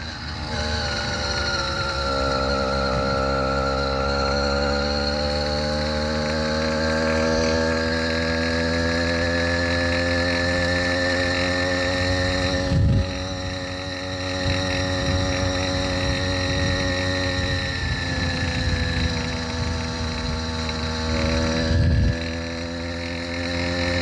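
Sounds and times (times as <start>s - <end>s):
small bicycle engine running hard: 0.0s - 24.0s.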